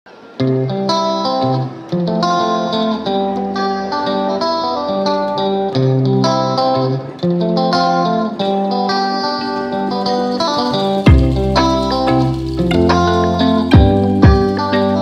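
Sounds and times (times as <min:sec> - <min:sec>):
plucked guitar music: 0:00.1 - 0:15.0.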